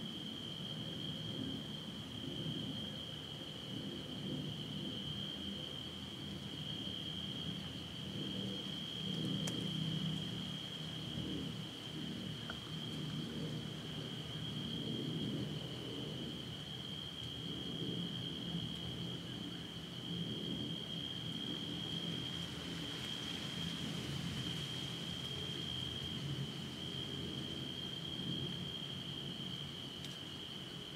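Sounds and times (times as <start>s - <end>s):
night insects trilling: 0.0s - 30.9s.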